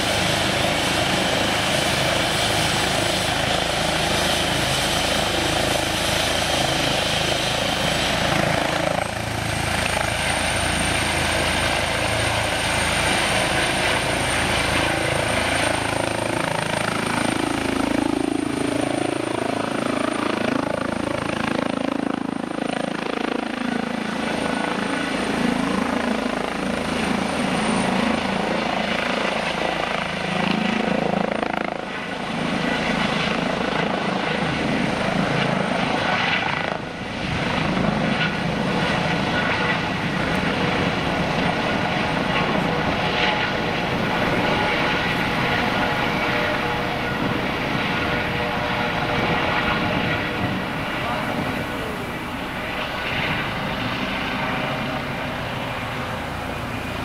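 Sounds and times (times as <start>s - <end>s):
helicopter rotor and turbine: 0.0s - 57.0s.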